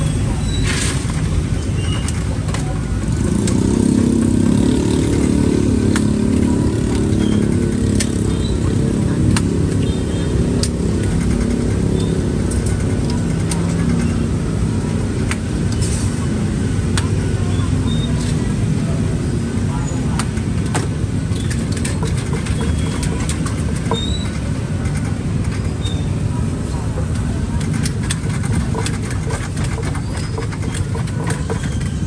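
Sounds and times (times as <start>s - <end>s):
street traffic: 0.0s - 32.0s
vehicle engine running: 0.9s - 32.0s.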